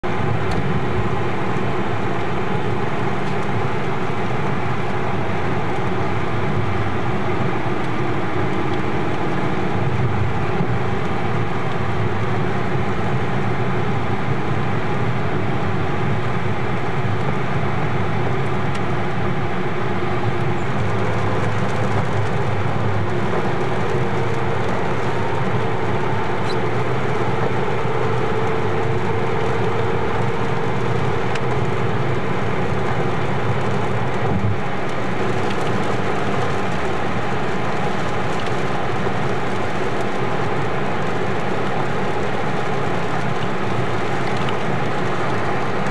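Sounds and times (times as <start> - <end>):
car road noise on wet road: 0.0 - 45.9.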